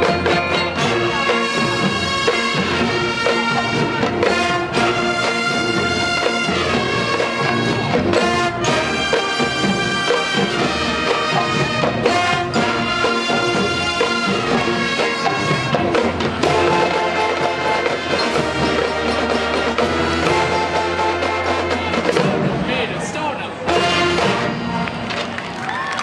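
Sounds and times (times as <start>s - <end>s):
marching band playing: 0.0s - 26.0s.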